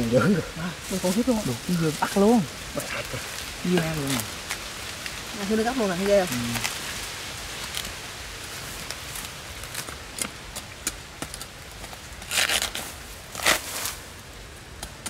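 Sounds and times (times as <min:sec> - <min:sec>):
palm fibre crackling and tearing: 0:00.0 - 0:15.0.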